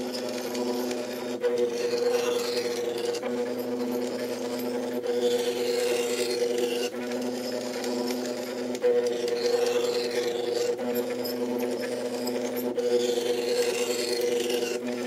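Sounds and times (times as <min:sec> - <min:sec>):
motors whining: 0:00.0 - 0:15.0.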